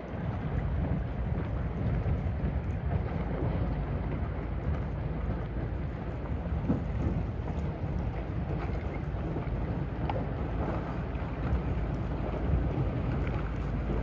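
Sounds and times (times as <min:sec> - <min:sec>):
ship low rumble: 0:00.0 - 0:14.0
wind buffeting microphone: 0:00.0 - 0:14.0.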